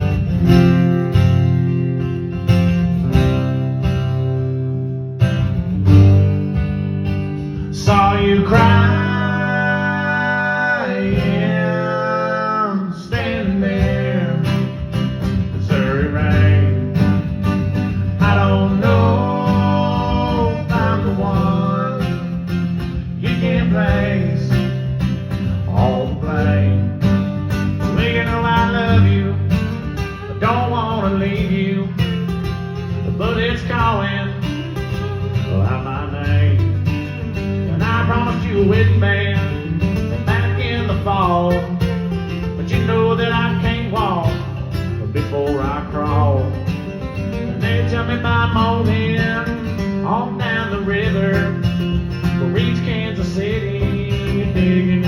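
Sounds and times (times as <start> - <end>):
bending guitar melody line: 0.0 - 55.0
strummed acoustic guitar: 0.0 - 55.0.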